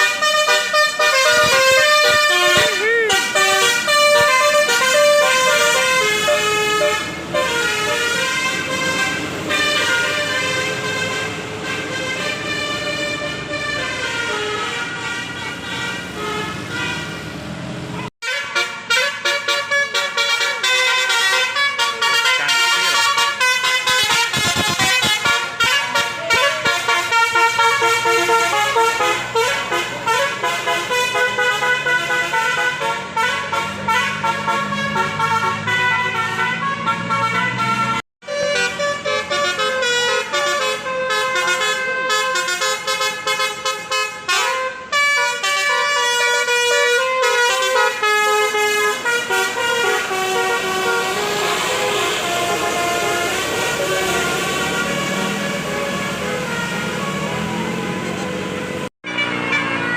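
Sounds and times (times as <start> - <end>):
multi-tone bus air horn tune: 0.0 - 59.9.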